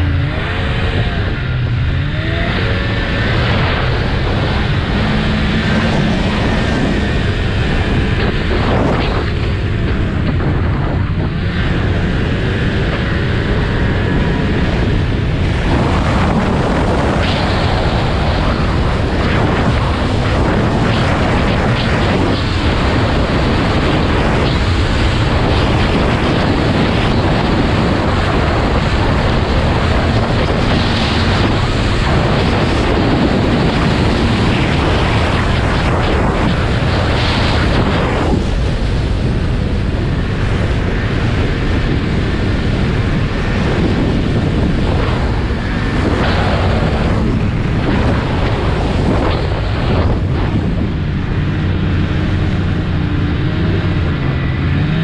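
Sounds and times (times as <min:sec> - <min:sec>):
snowmobile engine running: 0:00.0 - 0:55.0
wind buffeting microphone: 0:00.0 - 0:55.0.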